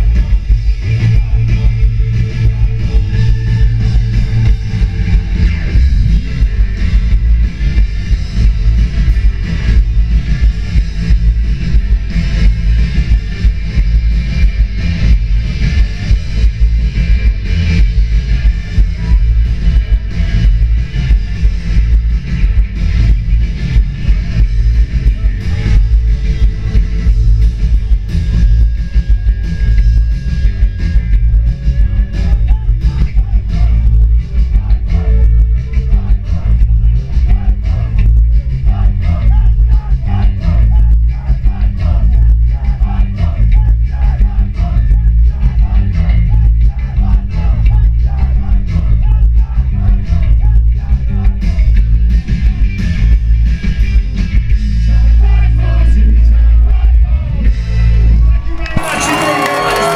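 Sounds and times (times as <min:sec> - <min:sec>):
live rock band playing: 0:00.0 - 0:55.0, 0:57.6 - 0:59.9
drum kit beating: 0:00.0 - 0:55.5, 0:58.2 - 0:59.9
bass guitar: 0:00.0 - 0:59.9
electric guitars: 0:00.0 - 0:59.9.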